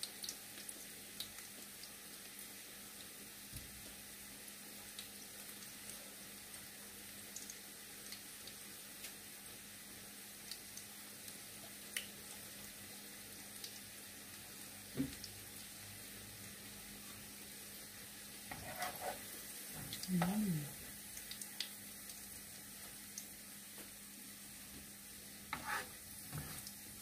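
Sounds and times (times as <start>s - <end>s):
fritters sizzling in oil: 0.0s - 27.0s.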